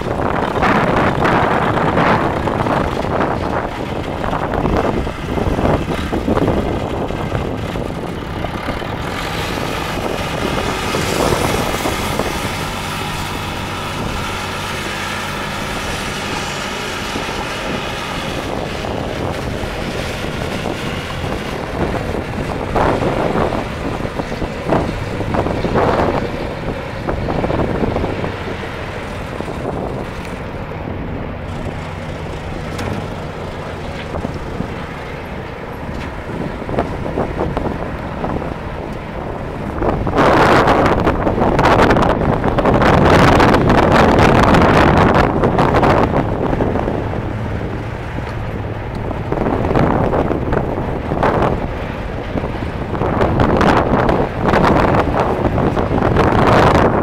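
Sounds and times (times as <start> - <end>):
backhoe engine running: 0.0 - 57.0
wind buffeting microphone: 0.0 - 57.0.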